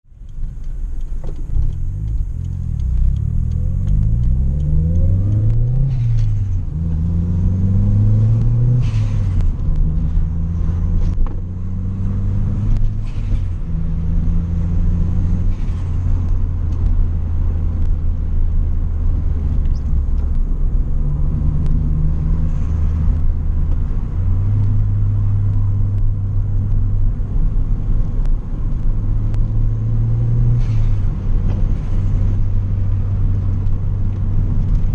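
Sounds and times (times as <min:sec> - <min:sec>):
car engine revving: 0:00.5 - 0:34.9.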